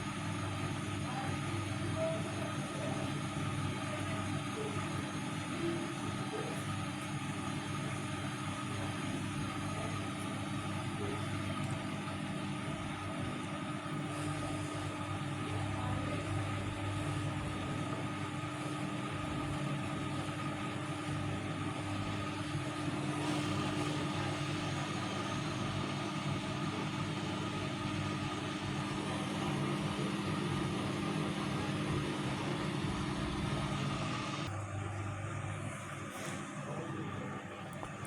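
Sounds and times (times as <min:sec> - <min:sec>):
washing machine motor hum: 0:00.0 - 0:38.0.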